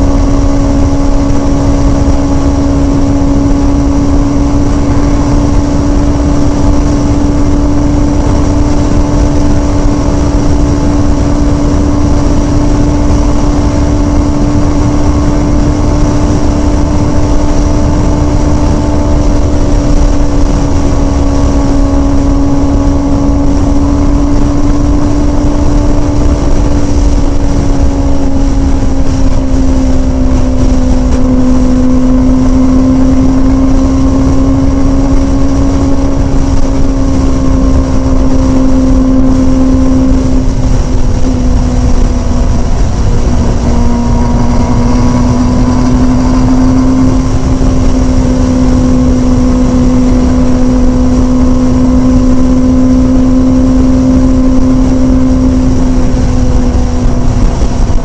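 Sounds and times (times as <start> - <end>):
motorcycle engine cruising drone: 0.0 - 58.0
wind rush: 0.0 - 58.0.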